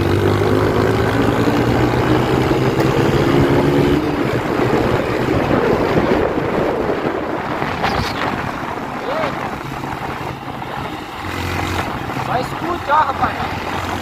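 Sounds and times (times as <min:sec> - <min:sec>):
motorcycle engine accelerating: 0:00.0 - 0:14.0
wind buffeting microphone: 0:00.0 - 0:14.0.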